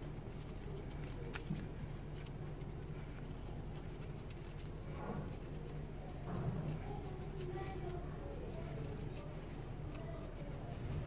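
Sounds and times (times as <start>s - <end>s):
faint indistinct sounds: 0.0s - 11.0s
steady low hum: 0.0s - 11.0s.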